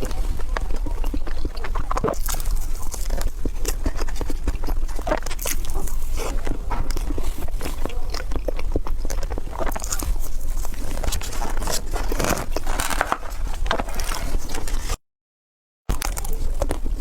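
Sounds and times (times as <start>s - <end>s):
crisp chewing crunches: 0.0s - 15.0s, 15.9s - 17.0s.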